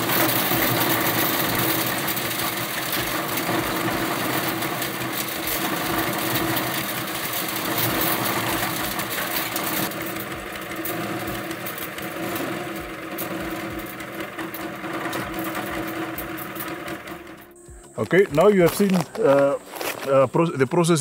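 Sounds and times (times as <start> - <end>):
seed pods clicking and rattling: 0.0 - 20.3
hammer mill humming: 0.0 - 21.0.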